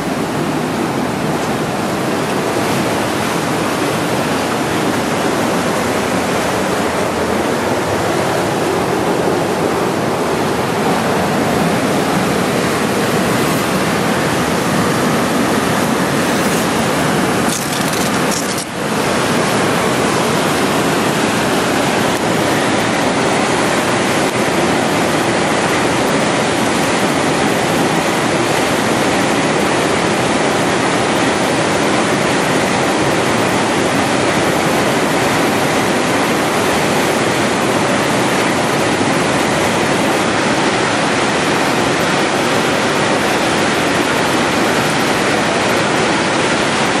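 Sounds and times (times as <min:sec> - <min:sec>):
creek water rushing over rocks: 0:00.0 - 0:47.0.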